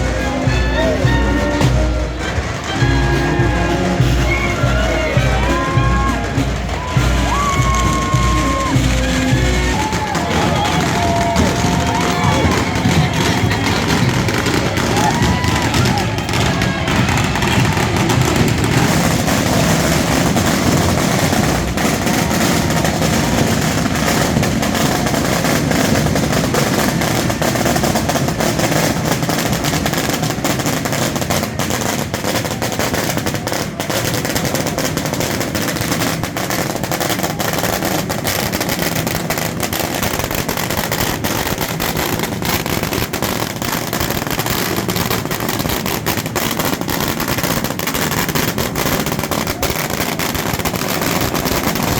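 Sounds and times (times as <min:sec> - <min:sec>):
firecrackers crackling: 0:00.0 - 0:51.9.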